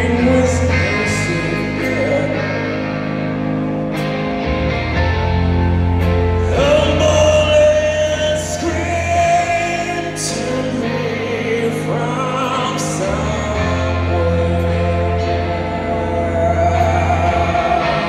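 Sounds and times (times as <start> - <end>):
man singing: 0.0 - 3.0, 6.4 - 18.0
bass line: 0.0 - 18.0
live rock band: 0.0 - 18.0.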